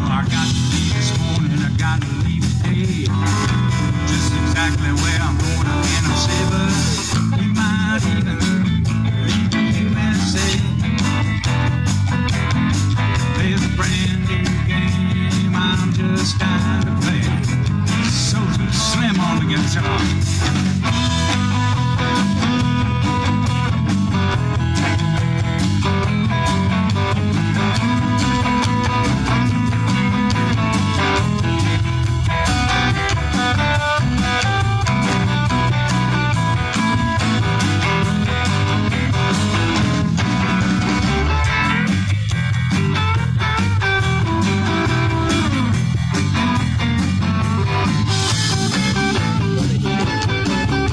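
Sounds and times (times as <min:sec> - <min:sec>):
bass: 0:00.0 - 0:50.9
blues rock band: 0:00.0 - 0:50.9
drum beat: 0:00.0 - 0:50.9
electric guitar: 0:00.0 - 0:50.9.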